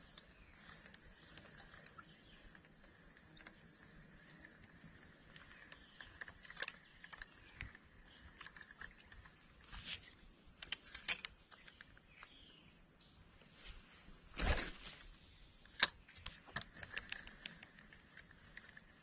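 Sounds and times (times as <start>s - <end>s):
small clicks and rustles: 0.0s - 12.6s, 13.4s - 19.0s.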